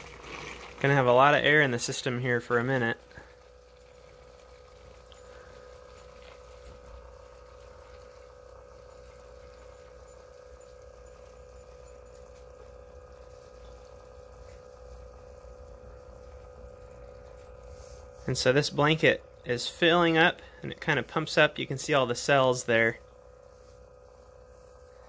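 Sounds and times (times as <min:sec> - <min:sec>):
faint water gurgling: 0:00.0 - 0:25.0
pump humming: 0:00.0 - 0:25.0.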